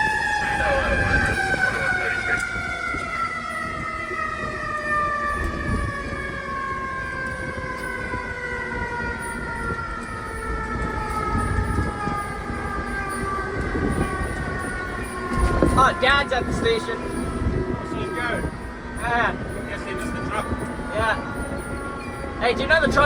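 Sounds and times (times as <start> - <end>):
fire siren winding down: 0.0 - 23.0.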